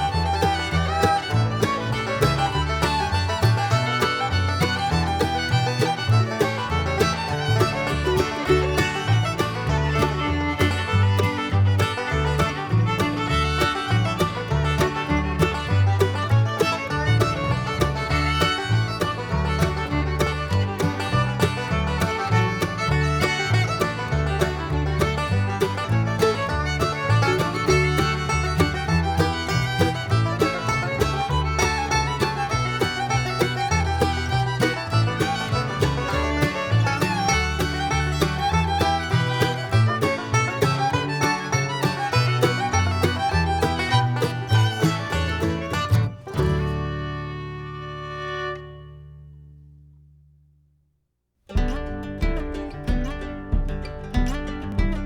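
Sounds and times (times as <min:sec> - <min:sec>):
bluegrass instrumental music: 0:00.0 - 0:50.1, 0:51.5 - 0:55.0.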